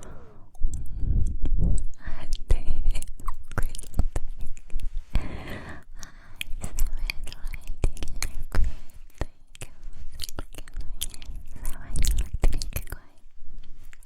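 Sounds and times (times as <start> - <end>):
lip and tongue clicks: 0.4 - 5.2, 5.9 - 14.0.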